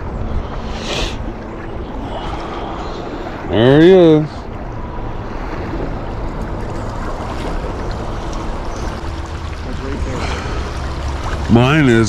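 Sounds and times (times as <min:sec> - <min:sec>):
water current rushing: 0:00.0 - 0:12.0.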